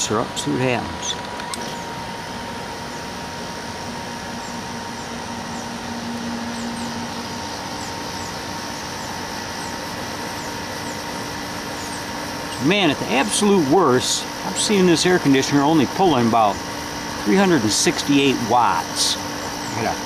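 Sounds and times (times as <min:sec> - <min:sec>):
air conditioner fan whoosh: 0:00.0 - 0:20.0
low compressor hum: 0:00.0 - 0:20.0.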